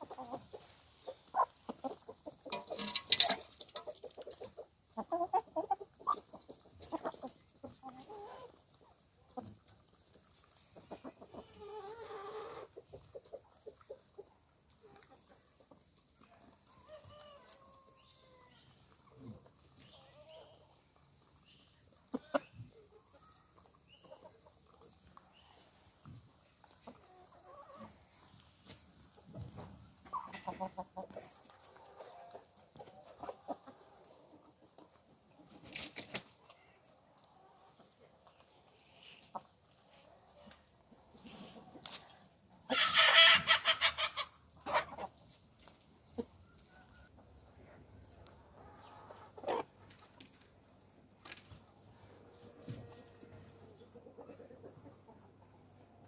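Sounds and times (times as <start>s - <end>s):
chickens calling: 0.0s - 56.0s
hens clucking: 0.0s - 56.0s.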